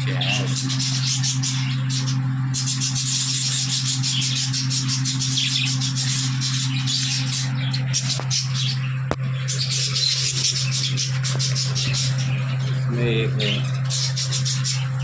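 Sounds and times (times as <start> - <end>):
budgerigars chattering and chirping: 0.0 - 15.0
steady low hum: 0.0 - 15.0.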